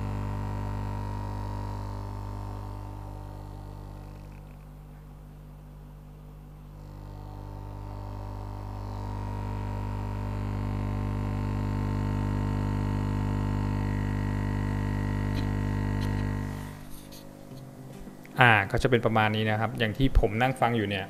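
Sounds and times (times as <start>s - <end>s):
aquarium air pump humming: 0.0s - 20.3s.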